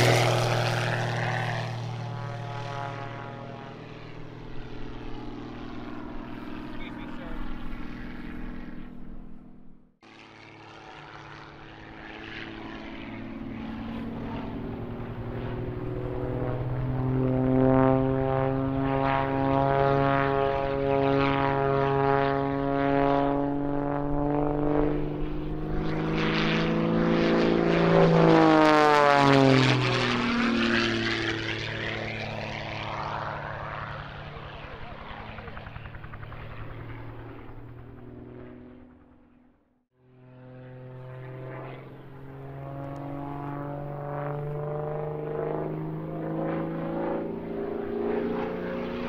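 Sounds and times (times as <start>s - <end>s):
propeller airplane flying past: 0.0s - 49.0s.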